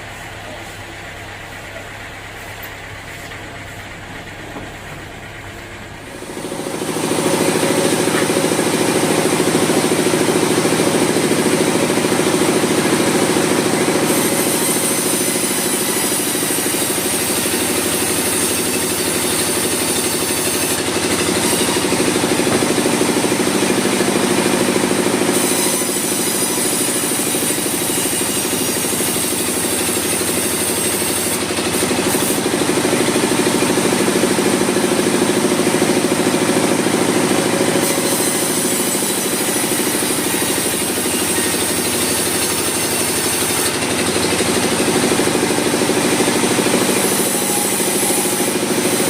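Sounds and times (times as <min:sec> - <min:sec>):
sawmill saw humming: 0:00.0 - 0:49.0
saw cutting log: 0:06.1 - 0:49.0.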